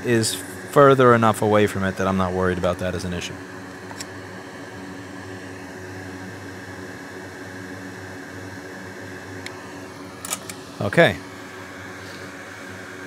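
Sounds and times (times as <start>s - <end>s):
electric fan hum and hiss: 0.0s - 13.0s.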